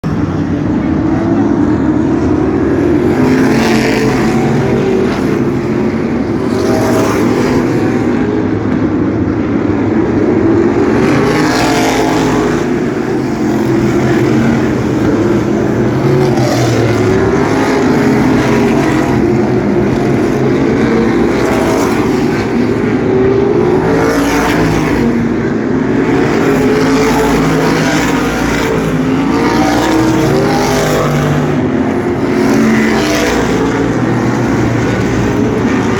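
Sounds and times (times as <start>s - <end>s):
racing car engines droning: 0.0s - 35.9s.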